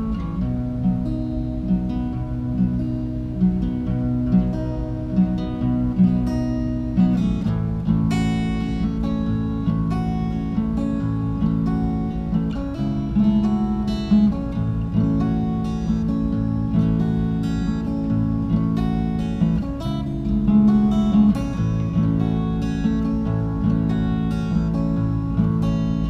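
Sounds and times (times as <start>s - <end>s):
acoustic guitar strummed and picked: 0.0s - 26.0s.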